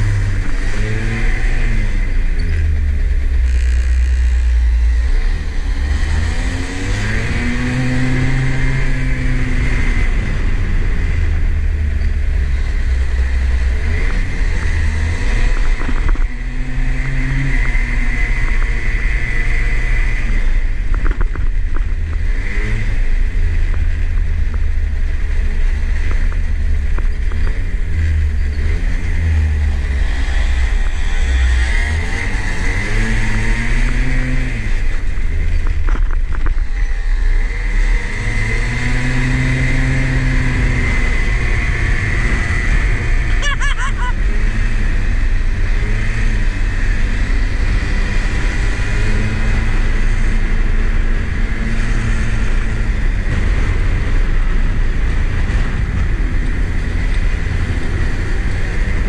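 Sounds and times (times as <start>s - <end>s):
go-kart engine revving: 0.0s - 59.0s
heavy low rumble: 0.0s - 59.0s.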